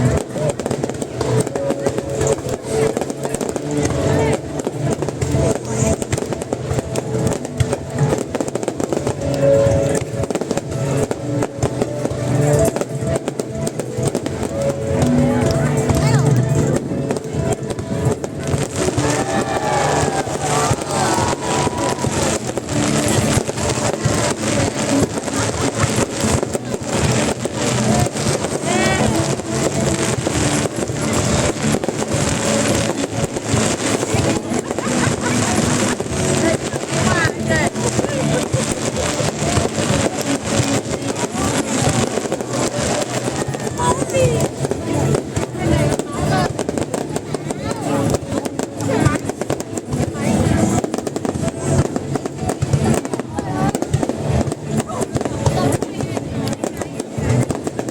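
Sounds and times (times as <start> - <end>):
fireworks bangs and crackles: 0.0 - 57.9
loud background music: 0.0 - 57.9.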